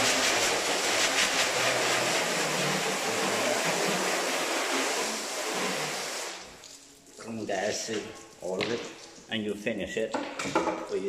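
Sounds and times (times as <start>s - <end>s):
hose spraying on metal: 0.0s - 9.1s.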